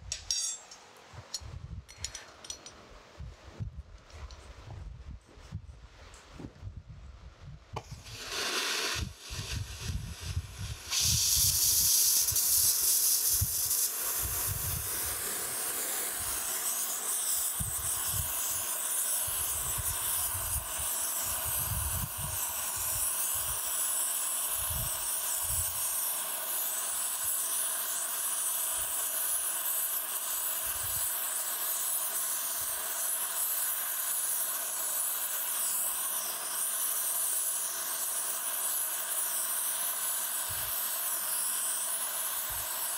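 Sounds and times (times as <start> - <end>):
gas torch hissing: 7.7 - 42.9.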